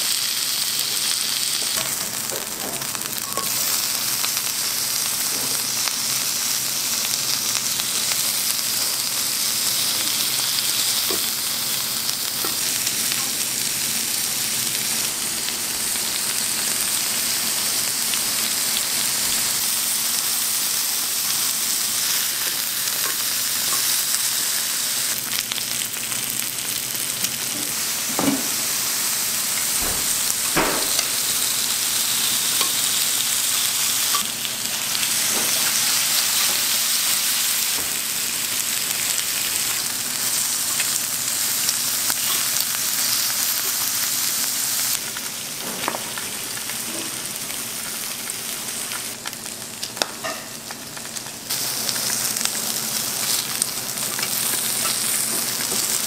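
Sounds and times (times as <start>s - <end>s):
pork sizzling on a grill: 0.0s - 56.0s.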